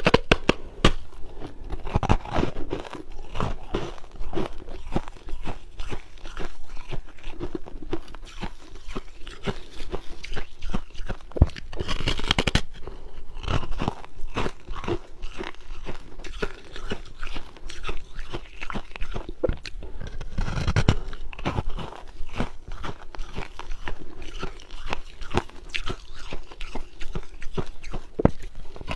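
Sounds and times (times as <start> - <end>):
person crunching ice: 0.0 - 28.9.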